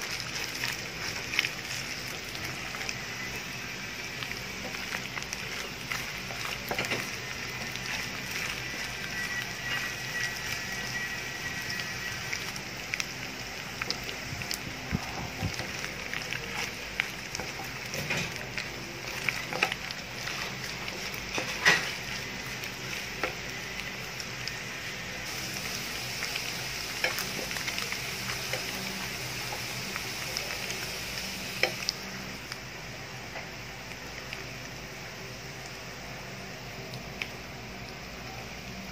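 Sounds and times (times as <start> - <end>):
meat sizzling in a frying pan: 0.0 - 38.9.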